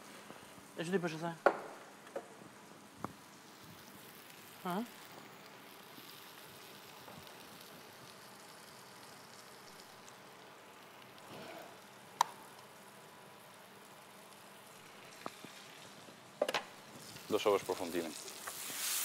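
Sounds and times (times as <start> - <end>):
frying pan sizzling: 2.7 - 19.0.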